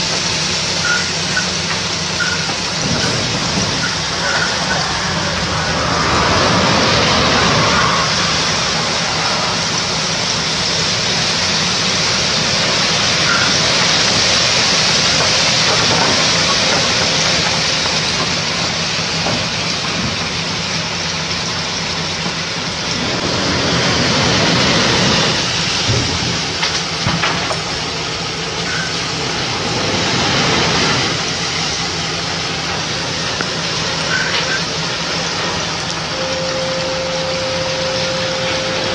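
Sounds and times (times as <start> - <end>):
coal pouring from truck: 0.0 - 38.9
truck engine running: 0.0 - 38.9.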